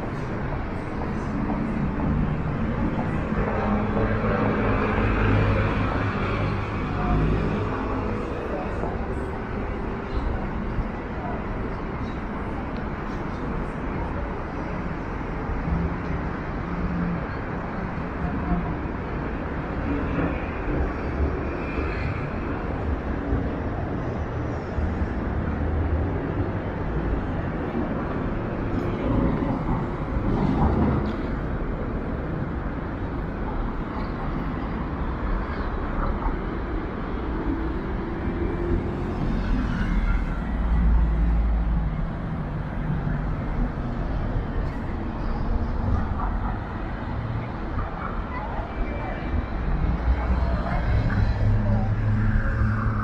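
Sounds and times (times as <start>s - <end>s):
distant traffic rumble: 0.0s - 53.0s.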